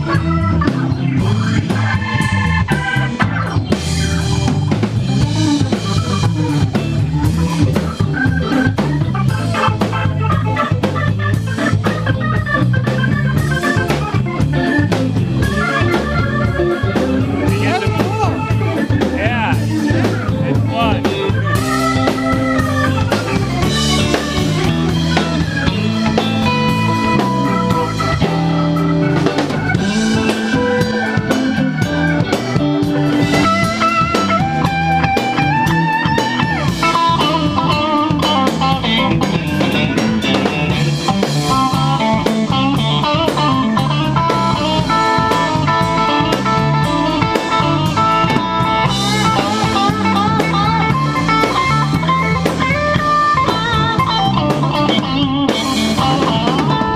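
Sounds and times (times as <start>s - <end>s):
drum kit beat: 0.0s - 56.9s
electric guitar bent notes: 0.0s - 56.9s.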